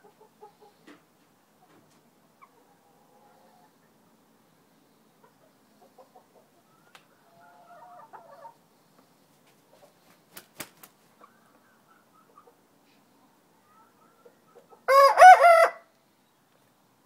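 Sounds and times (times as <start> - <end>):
chickens clucking: 0.0 - 15.1.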